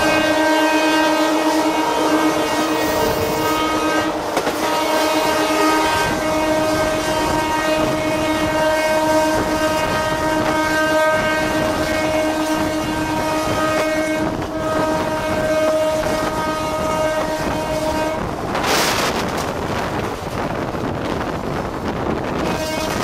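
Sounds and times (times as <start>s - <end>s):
locomotive horn: 0.0s - 20.4s, 22.2s - 23.0s
train coaches rumbling on rails: 0.0s - 23.0s.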